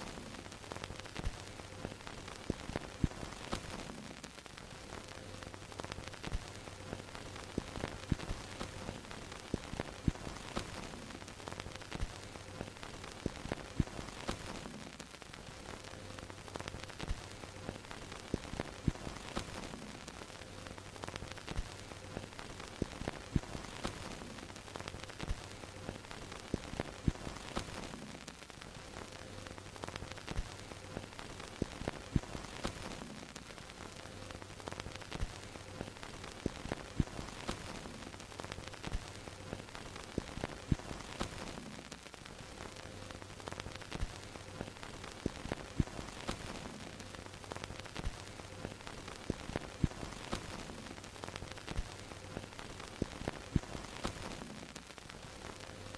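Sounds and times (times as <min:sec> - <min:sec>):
film crackles and hiss: 0:00.0 - 0:55.9.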